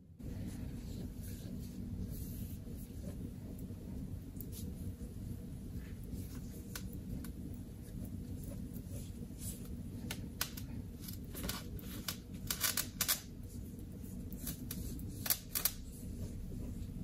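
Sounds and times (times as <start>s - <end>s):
cloth wiping a screen: 0.1s - 17.0s.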